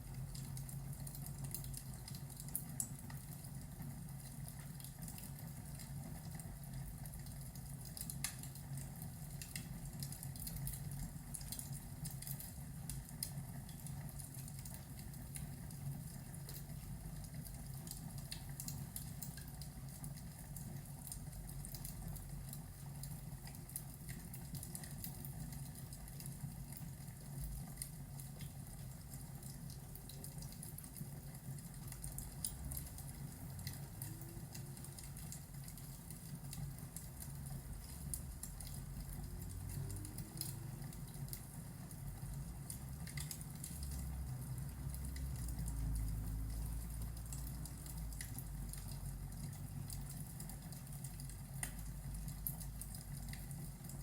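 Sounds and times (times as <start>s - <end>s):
rain patter: 0.0s - 54.0s
fire crackling and popping: 0.1s - 54.0s.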